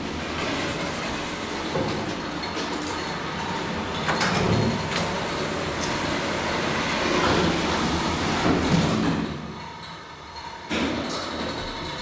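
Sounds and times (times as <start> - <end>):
elevator running rumble: 0.0 - 12.0
sliding doors: 0.0 - 12.0.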